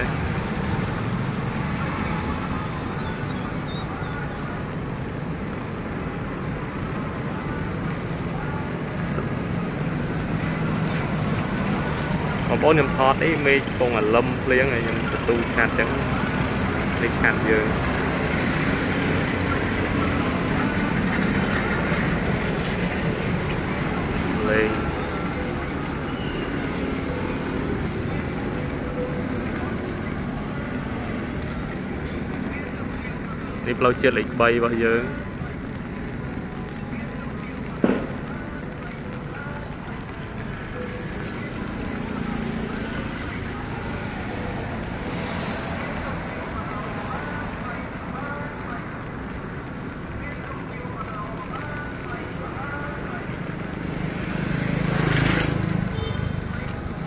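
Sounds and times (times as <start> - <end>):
motorbikes and cars passing: 0.0 - 57.0
road traffic rushing: 0.0 - 57.0.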